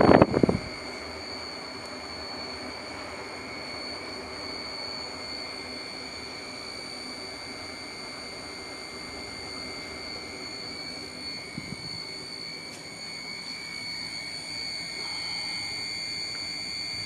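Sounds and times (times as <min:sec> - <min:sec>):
extractor motor hum and whine: 0:00.0 - 0:17.0.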